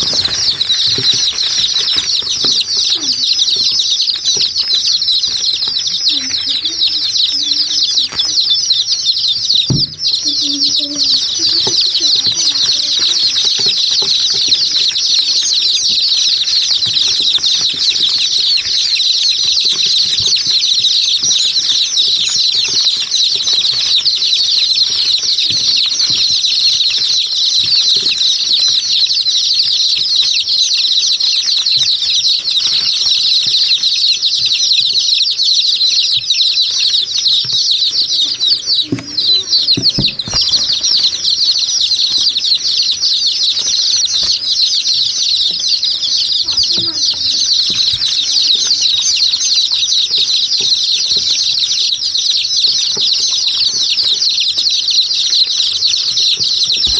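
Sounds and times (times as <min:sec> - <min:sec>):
many small birds chirping: 0:00.0 - 0:56.9.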